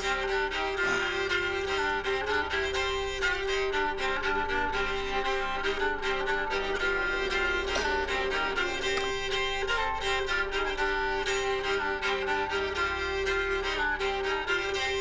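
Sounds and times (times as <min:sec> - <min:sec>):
steady beat: 0:00.0 - 0:15.0
violin background music: 0:00.0 - 0:15.0.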